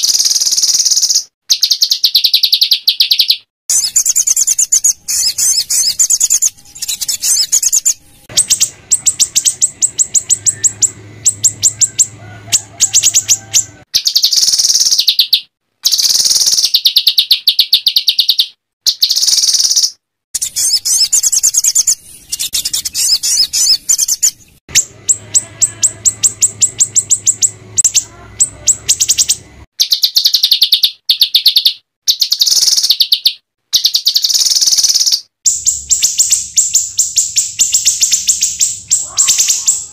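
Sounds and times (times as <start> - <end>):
songbird chattering trills: 0.0 - 39.9.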